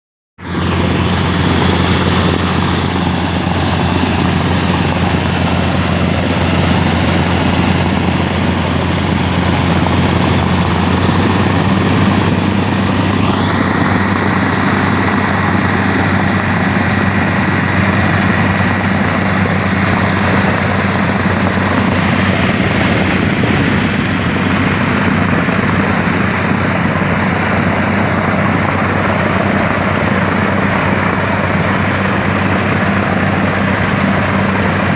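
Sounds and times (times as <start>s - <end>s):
drilling machine engine droning: 0.4s - 34.9s
machine high whine: 0.4s - 34.9s.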